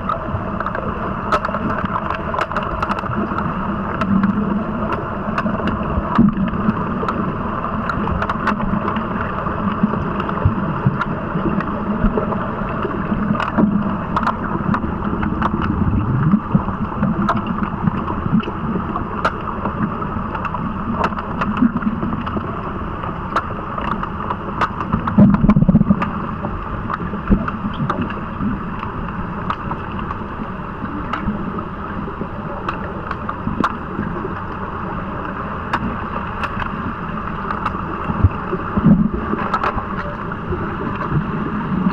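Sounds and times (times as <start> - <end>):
muffled underwater rush: 0.0 - 41.9
sharp underwater clicks and knocks: 0.0 - 41.9.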